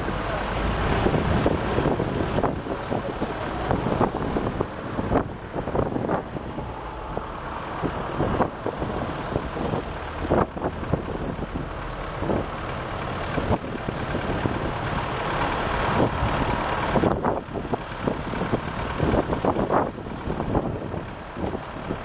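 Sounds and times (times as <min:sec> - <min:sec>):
engines idling in traffic: 0:00.0 - 0:22.0.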